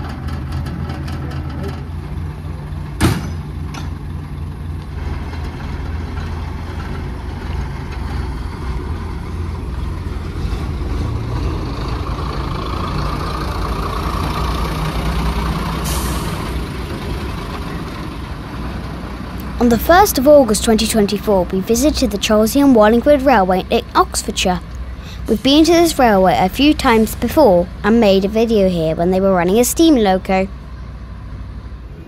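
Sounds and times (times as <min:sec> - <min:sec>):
diesel railcar engine idling: 0:00.0 - 0:32.0.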